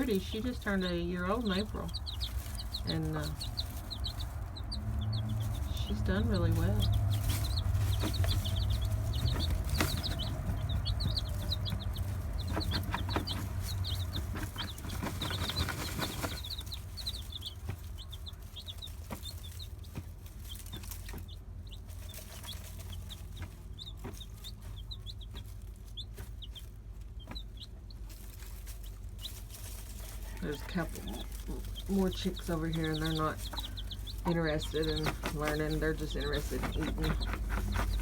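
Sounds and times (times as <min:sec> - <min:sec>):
chicks peeping: 0:00.0 - 0:38.0
hen scratching in dirt: 0:00.0 - 0:38.0.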